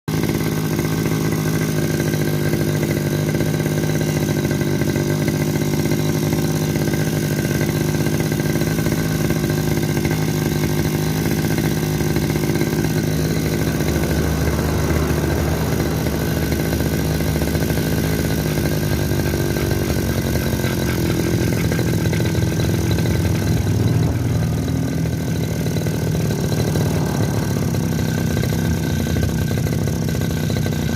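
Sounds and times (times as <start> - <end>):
brush cutter engine running: 0.1 - 30.9.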